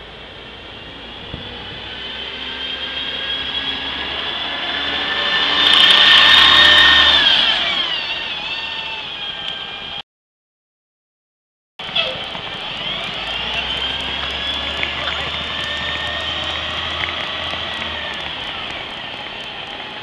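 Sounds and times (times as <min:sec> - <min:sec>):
bus engine whine accelerating: 0:00.0 - 0:10.0, 0:11.8 - 0:20.0.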